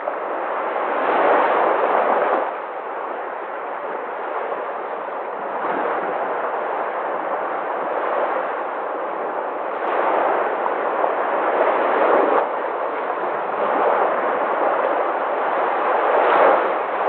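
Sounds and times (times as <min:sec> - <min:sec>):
sea waves washing in: 0:00.0 - 0:17.0.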